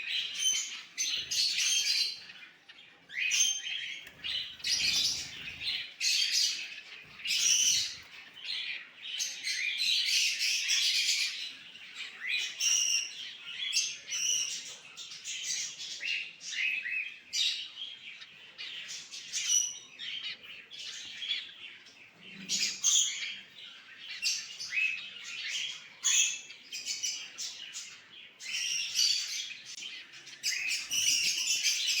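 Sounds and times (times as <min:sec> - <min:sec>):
cockatiels chirping and calling: 0:00.0 - 0:32.0.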